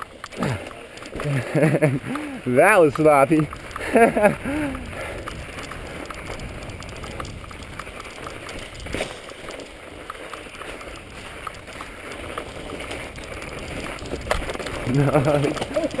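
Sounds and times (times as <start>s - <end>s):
bike clicks and rattles: 0.0s - 16.0s
bike tyres on snow: 0.0s - 16.0s.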